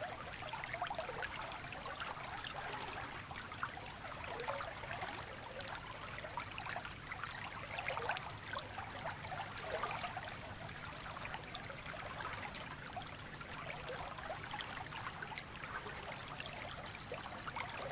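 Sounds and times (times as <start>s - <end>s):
stream gurgling and trickling: 0.0s - 17.9s.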